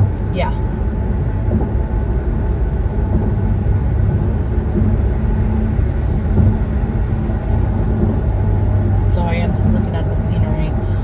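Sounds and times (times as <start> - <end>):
road rumble and engine noise: 0.0 - 11.0.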